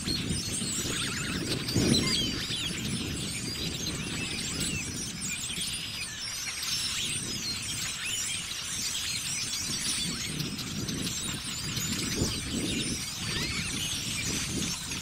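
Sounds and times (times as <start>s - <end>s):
flock of blackbirds calling: 0.0s - 15.0s.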